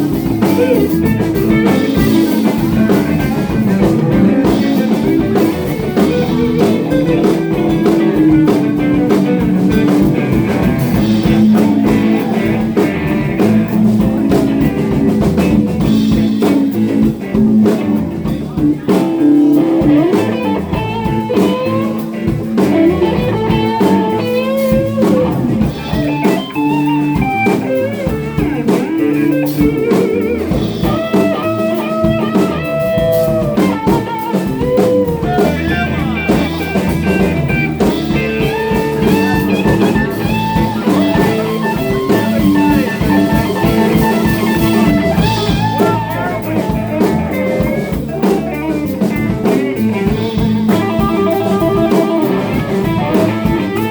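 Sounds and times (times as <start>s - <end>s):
blues-rock band playing: 0.0s - 53.9s
electric guitar soloing: 0.0s - 53.9s.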